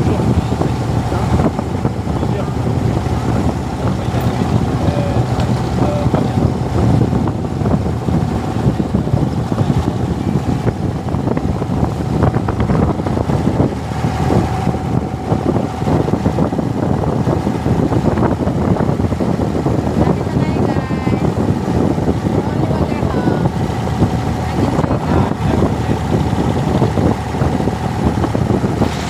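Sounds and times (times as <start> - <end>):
boat engine running: 0.0 - 29.0
water rushing around hull: 0.0 - 29.0.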